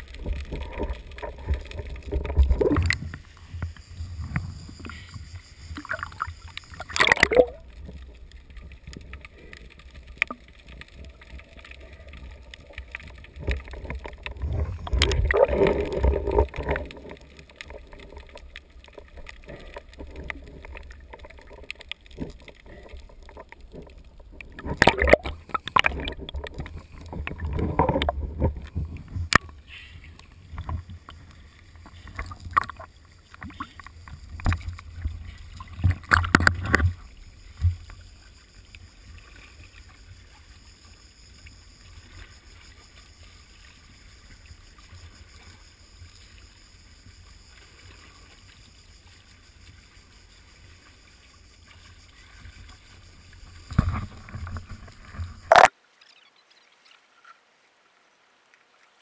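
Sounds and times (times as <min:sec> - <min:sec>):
muffled water splashing: 0:00.0 - 0:56.3
faint steady hiss: 0:00.0 - 0:59.0.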